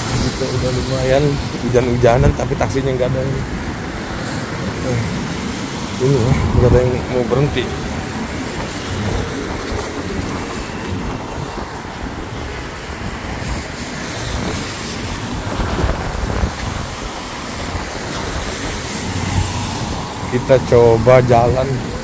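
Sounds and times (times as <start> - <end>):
traffic on wet road: 0.0 - 22.0
wind rumbling on microphone: 0.0 - 22.0.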